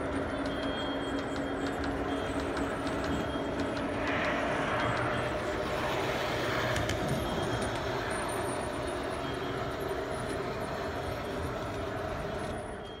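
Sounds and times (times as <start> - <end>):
model train rumbling: 0.0 - 13.0.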